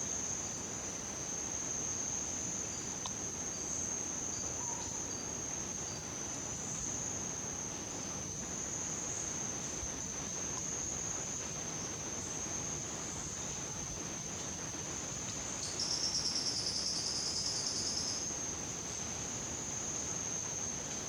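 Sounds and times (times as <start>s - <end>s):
faint background hiss: 0.0s - 21.0s.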